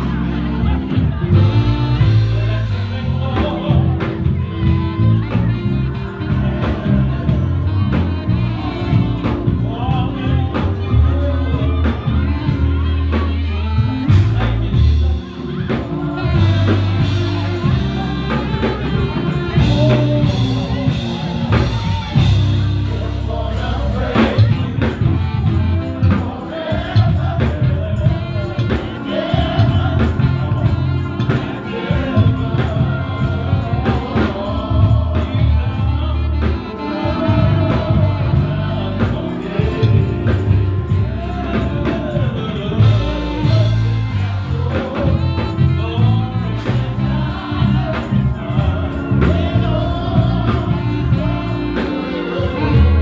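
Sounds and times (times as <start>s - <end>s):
bass line: 0.0s - 53.0s
percussion beat: 0.0s - 53.0s
voices singing gospel: 0.0s - 53.0s.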